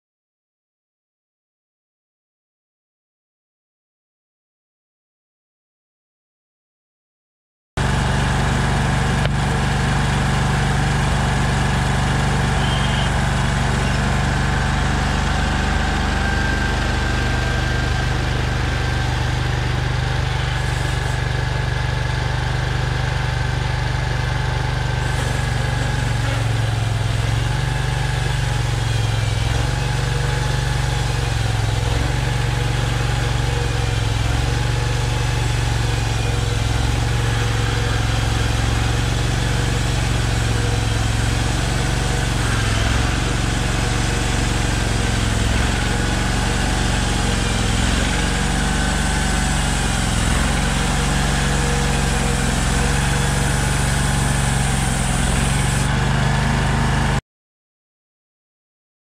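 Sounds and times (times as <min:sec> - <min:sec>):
sawmill engine running: 0:07.8 - 0:57.2.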